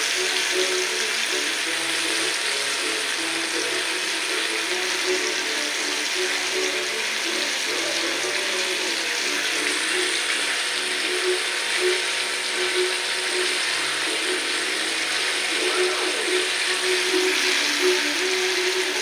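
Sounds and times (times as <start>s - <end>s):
chicken deep-frying in oil: 0.0s - 19.0s.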